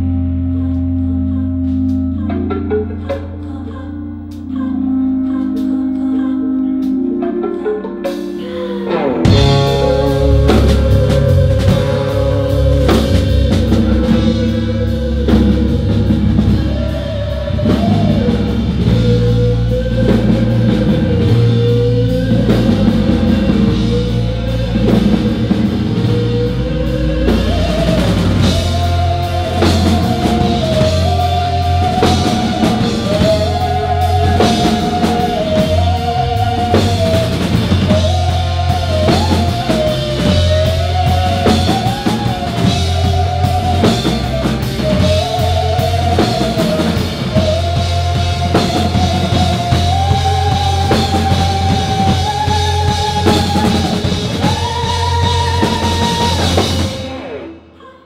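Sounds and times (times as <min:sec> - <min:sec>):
live pop band playing: 0:00.0 - 0:57.8.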